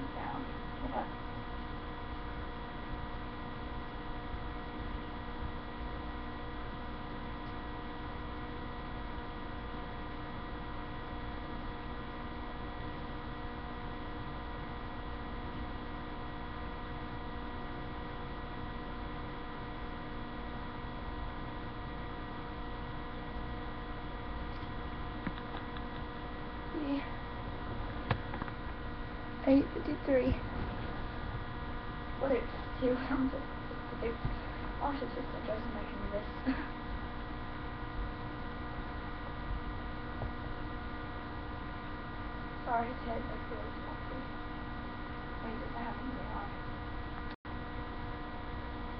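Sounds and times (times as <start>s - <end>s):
steady electrical hum: 0.0s - 48.9s.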